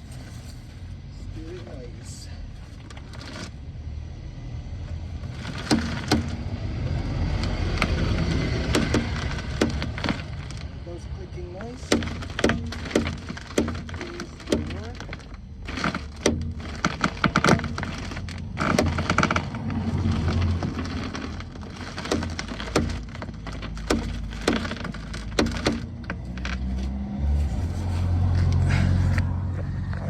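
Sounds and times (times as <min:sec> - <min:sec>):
car suspension clicks and creaks: 0:00.0 - 0:03.7, 0:04.8 - 0:30.0.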